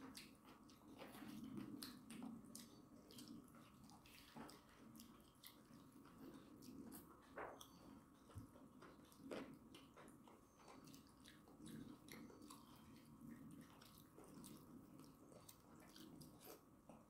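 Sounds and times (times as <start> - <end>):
people chewing: 0.0 - 17.0.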